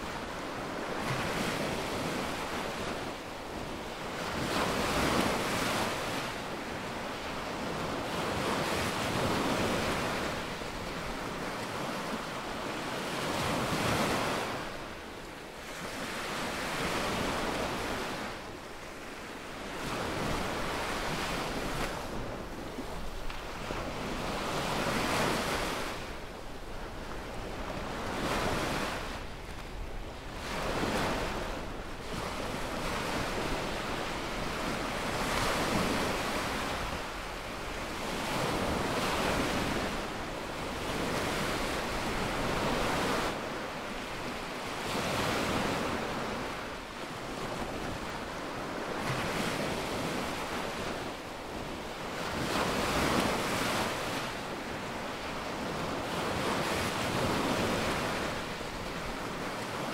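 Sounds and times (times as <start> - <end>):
waves washing up beach: 0.0 - 59.9
wind rumble on microphone: 0.0 - 59.9.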